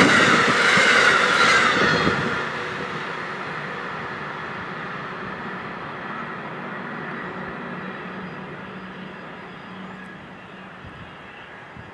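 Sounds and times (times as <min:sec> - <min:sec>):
train wheels on track: 0:00.0 - 0:11.9.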